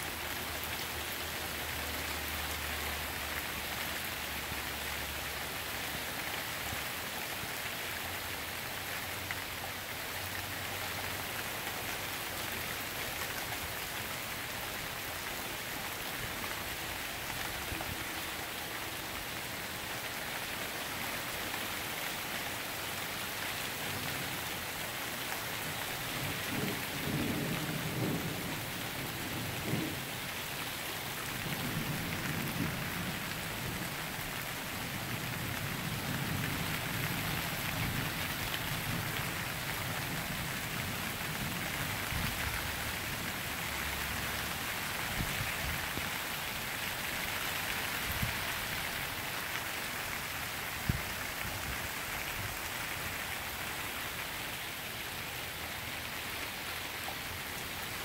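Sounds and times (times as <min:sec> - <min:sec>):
rain on pavement: 0:00.0 - 0:58.0.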